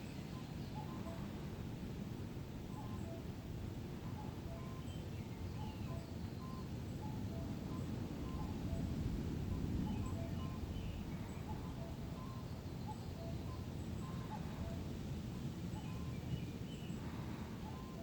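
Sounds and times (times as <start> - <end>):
songbird chirps: 0.0 - 18.0.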